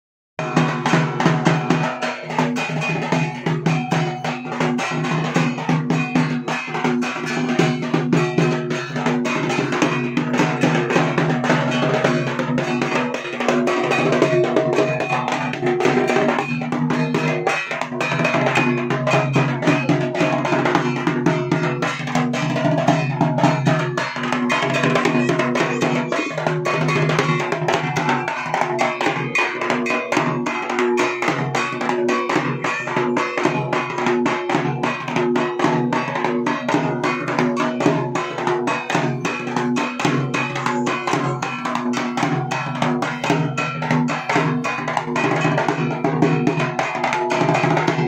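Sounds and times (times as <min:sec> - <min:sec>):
barrel drum fast rhythm: 0:00.4 - 0:48.0
steady ringing tones: 0:01.1 - 0:48.0.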